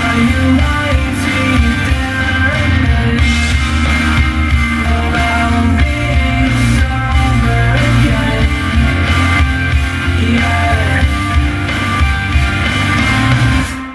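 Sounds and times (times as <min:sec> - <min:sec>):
rock music with heavy bass: 0:00.0 - 0:13.9.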